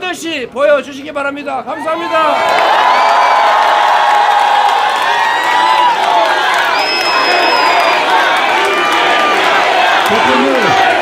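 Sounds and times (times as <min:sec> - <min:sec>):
crowd cheering and shouting: 0:01.7 - 0:11.0.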